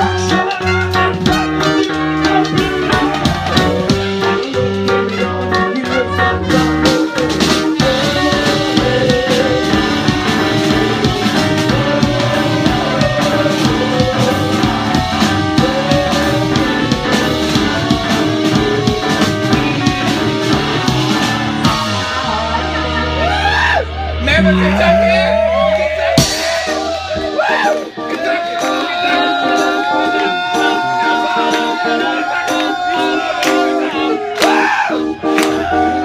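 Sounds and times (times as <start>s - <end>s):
drum kit: 0.0s - 36.0s
keyboards: 0.0s - 36.0s
live rock band playing: 0.0s - 36.0s.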